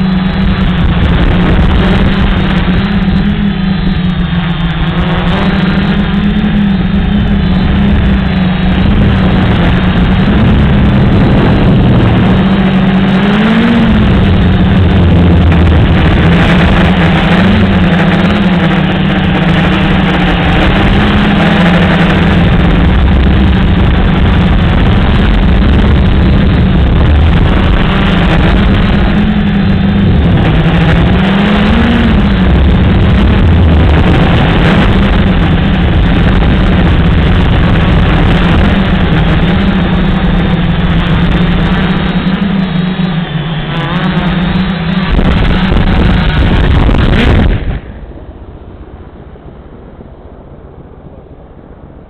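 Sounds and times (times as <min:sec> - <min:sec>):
quadcopter motors humming: 0:00.0 - 0:52.0.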